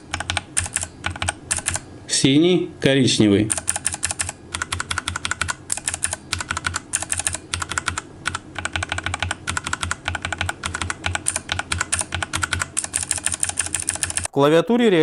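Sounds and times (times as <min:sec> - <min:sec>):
mechanical keyboard typing clicks: 0:00.0 - 0:01.8, 0:03.5 - 0:14.3.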